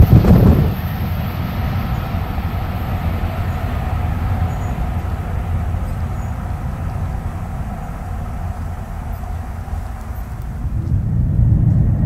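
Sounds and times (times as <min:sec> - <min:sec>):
high-speed train rumble: 0:00.0 - 0:12.0.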